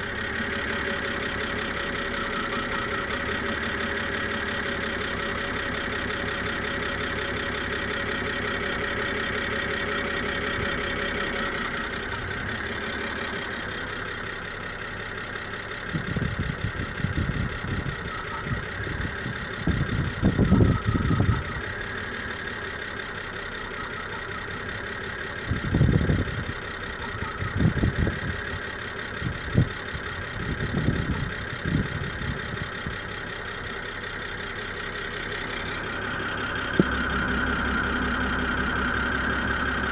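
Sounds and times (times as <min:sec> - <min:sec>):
car engine idling with misfire: 0:00.0 - 0:39.9.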